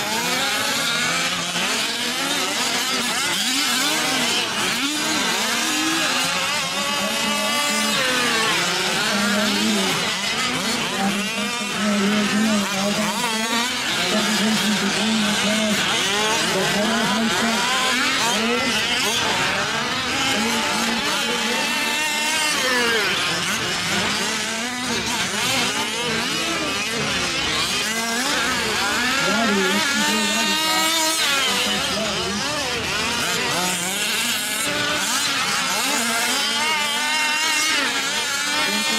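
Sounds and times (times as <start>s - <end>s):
small engines revving: 0.0s - 38.9s.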